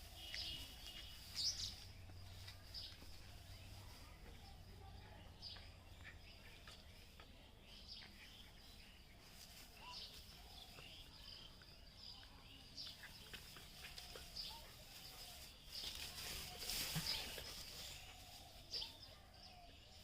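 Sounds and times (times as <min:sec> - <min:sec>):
bird chirps: 0:00.0 - 0:20.0.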